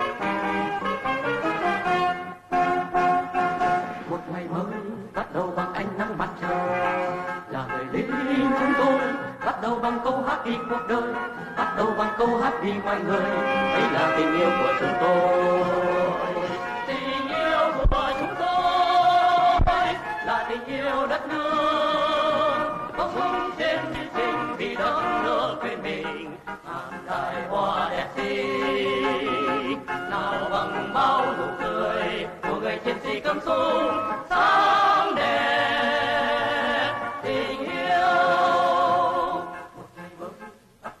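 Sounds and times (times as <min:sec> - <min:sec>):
male vocal group singing: 0:04.0 - 0:41.0.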